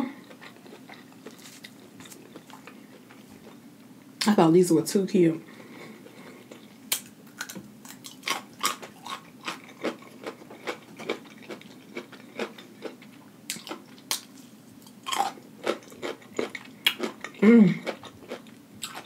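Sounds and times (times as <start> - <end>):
chewing crunchy food: 0.2 - 3.6, 6.0 - 19.0.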